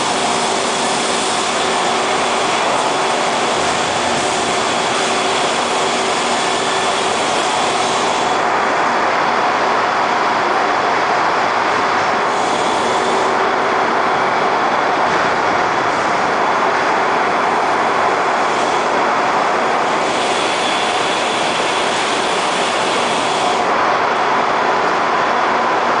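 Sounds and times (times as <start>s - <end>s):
conveyor machinery running: 0.0s - 26.0s.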